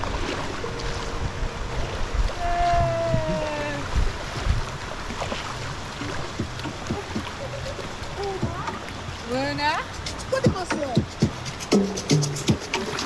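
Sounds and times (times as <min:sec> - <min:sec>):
low rumbles and thumps: 0:00.0 - 0:11.7
wind buffeting microphone: 0:00.0 - 0:11.7
shallow sea washing: 0:00.0 - 0:13.0.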